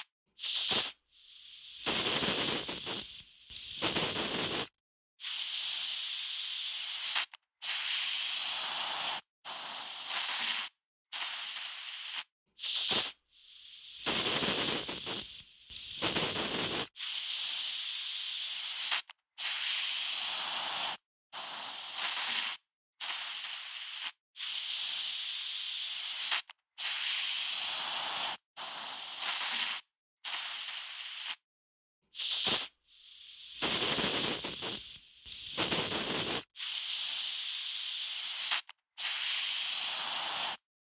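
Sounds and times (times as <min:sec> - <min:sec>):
aerosol spray can hissing: 0:00.4 - 0:31.4, 0:32.2 - 0:40.6.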